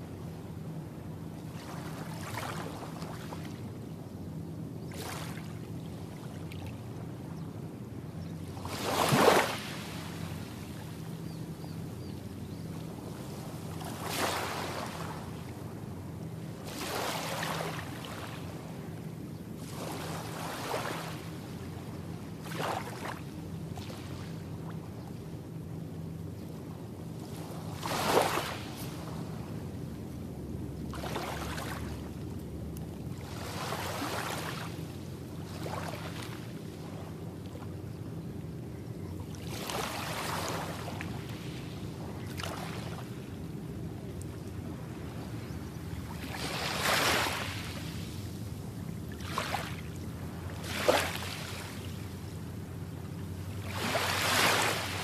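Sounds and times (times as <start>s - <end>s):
steady low hum: 0.0s - 55.0s
small waves breaking on beach: 1.3s - 3.7s, 4.9s - 7.4s, 8.4s - 11.4s, 12.8s - 19.0s, 19.6s - 24.9s, 27.1s - 32.4s, 33.0s - 37.9s, 39.1s - 55.0s.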